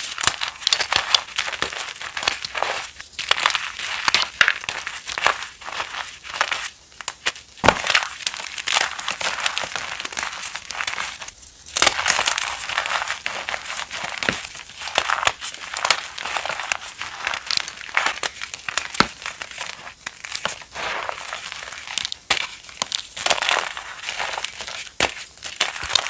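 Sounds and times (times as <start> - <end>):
chalk crunching and crumbling: 0.0 - 26.0.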